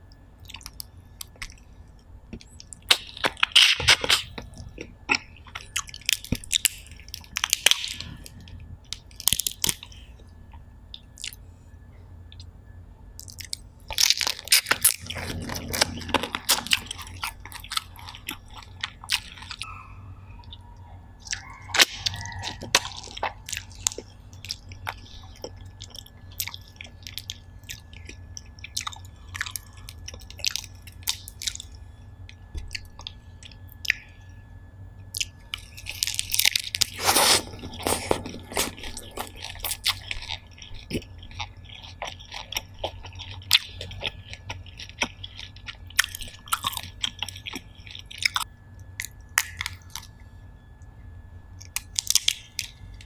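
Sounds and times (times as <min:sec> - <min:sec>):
chewing with wet crunches: 0:00.1 - 0:11.4, 0:13.2 - 0:53.0.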